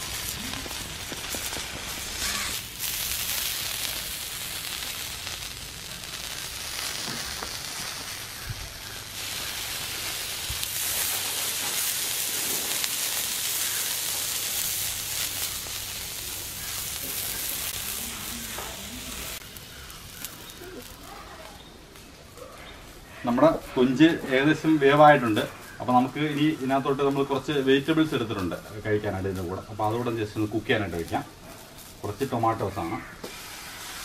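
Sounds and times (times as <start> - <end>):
prawn sizzling in a pan: 0.0 - 34.0.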